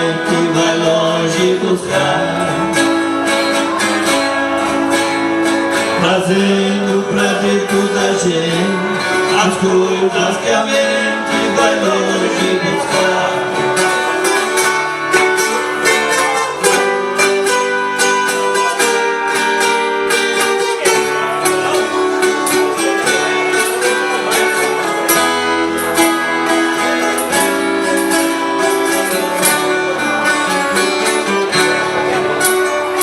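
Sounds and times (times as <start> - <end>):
acoustic plucked strings: 0.0 - 33.0.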